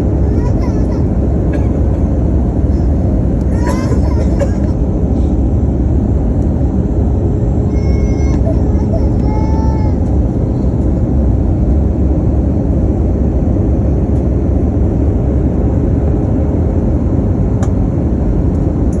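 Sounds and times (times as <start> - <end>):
faint steady hum: 0.0 - 19.0
jet engines and airflow rumble: 0.0 - 19.0.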